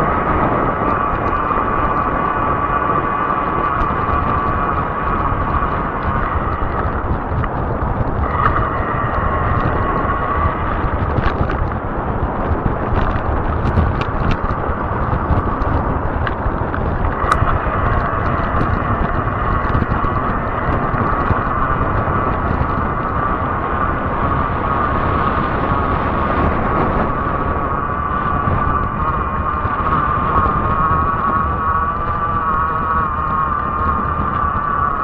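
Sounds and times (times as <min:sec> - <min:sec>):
motor whine: 0:00.0 - 0:35.0
tires rolling hum: 0:00.0 - 0:35.0
wind buffeting microphone: 0:00.0 - 0:35.0.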